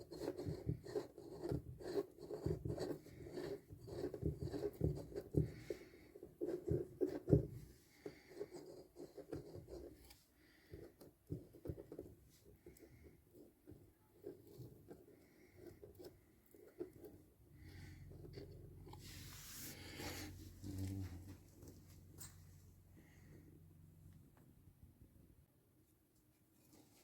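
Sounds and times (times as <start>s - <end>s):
rubbing and scraping: 0.0s - 22.7s.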